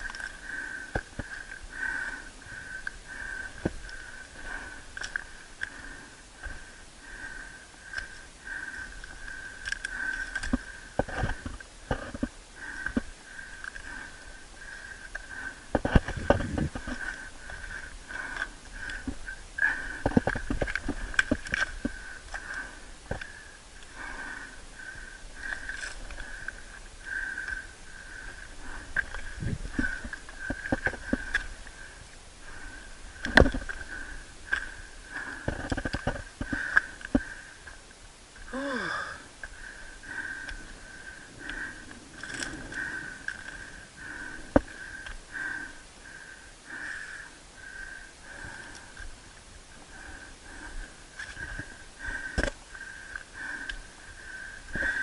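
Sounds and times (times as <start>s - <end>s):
climber breathing hard: 0.0s - 55.0s.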